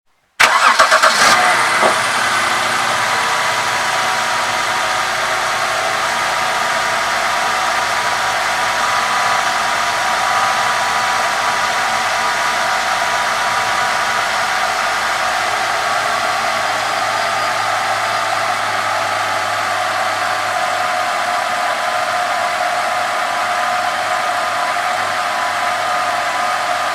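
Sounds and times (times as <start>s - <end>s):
car engine running with whine: 0.4s - 26.9s.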